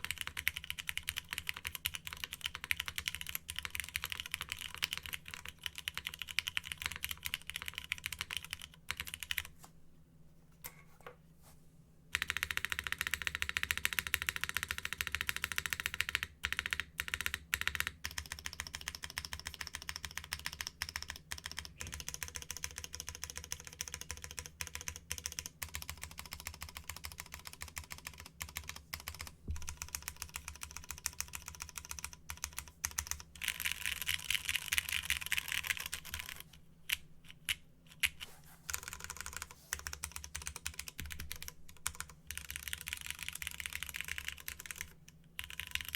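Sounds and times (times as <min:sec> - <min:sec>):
mechanical keyboard typing: 0:00.0 - 0:09.5, 0:12.1 - 0:45.9.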